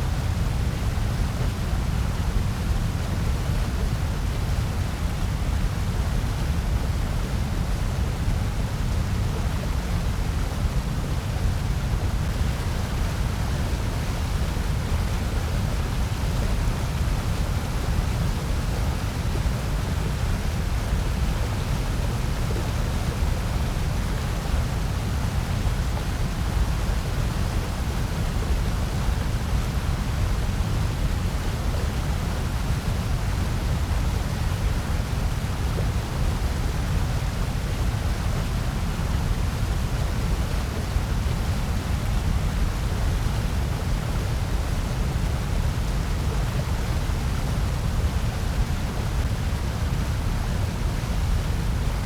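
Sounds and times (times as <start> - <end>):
steady white noise: 0.0 - 52.0.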